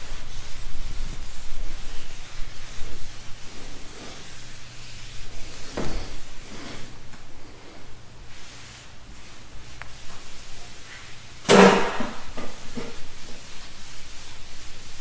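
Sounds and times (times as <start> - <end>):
cloth wiping swishes: 0.0 - 11.4, 12.3 - 15.0.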